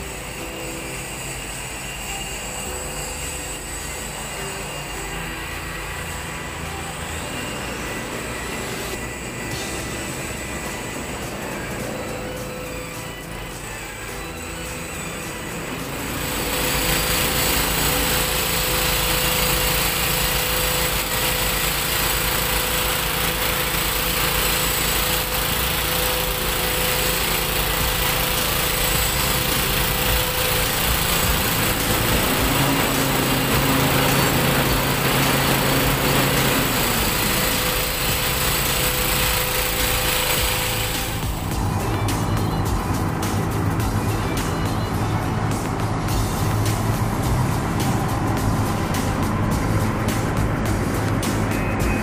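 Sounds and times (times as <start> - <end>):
second motor hum winding down: 0.0 - 52.0
workshop machinery engine running: 0.0 - 52.0.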